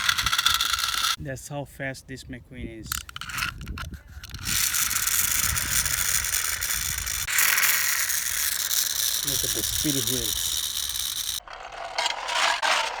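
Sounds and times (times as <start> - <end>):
ratcheting gear whirr: 0.0 - 1.2, 2.9 - 13.0
toy car clicks: 0.0 - 1.2, 2.9 - 13.0.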